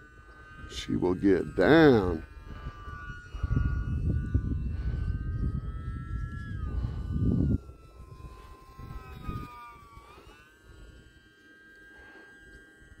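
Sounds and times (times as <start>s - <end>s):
wind rumbling on microphone: 0.0s - 11.2s
electric motor and propeller whining: 0.0s - 13.0s.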